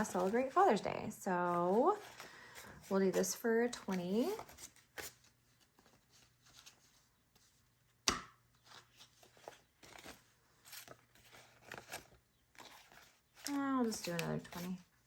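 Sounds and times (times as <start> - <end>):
paper rustling and crinkling: 0.0 - 7.8, 8.6 - 15.0.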